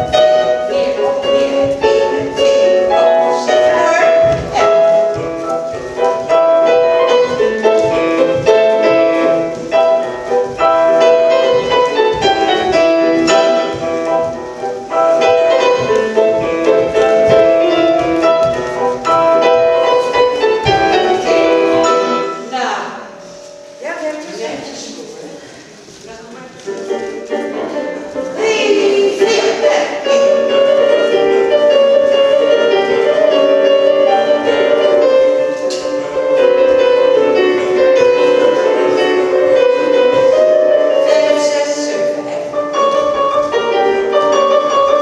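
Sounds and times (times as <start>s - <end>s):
electric piano melody: 0.0s - 23.8s, 26.6s - 45.0s.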